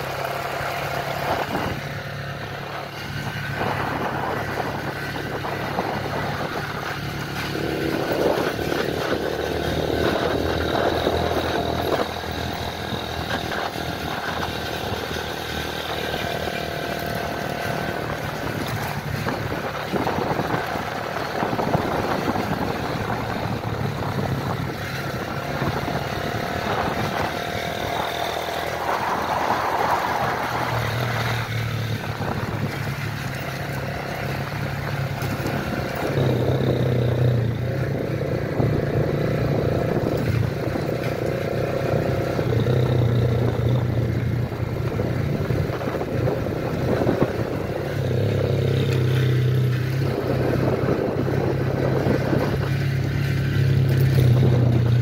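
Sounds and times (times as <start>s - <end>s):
tyres on dirt road: 0.0s - 55.0s
vehicle engine running: 0.0s - 55.0s
wind noise: 0.0s - 55.0s.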